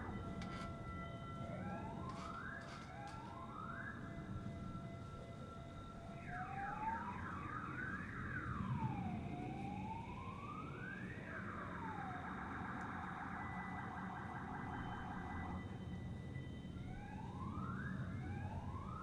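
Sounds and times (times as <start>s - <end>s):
siren wailing and yelping: 0.0s - 19.0s.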